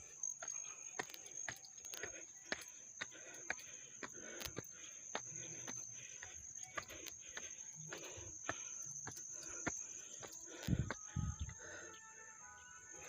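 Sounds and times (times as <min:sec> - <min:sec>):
footsteps walking: 0:00.0 - 0:12.0
insects droning: 0:00.0 - 0:13.0.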